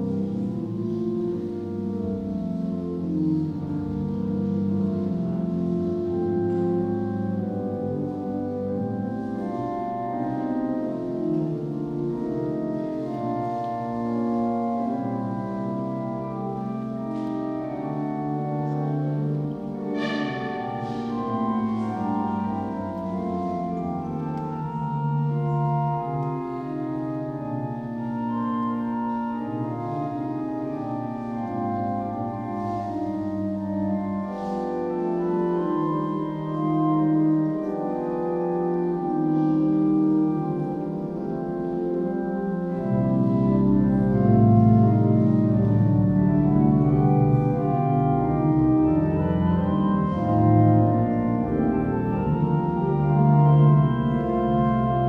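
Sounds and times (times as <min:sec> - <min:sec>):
church organ playing: 0:00.0 - 0:55.0.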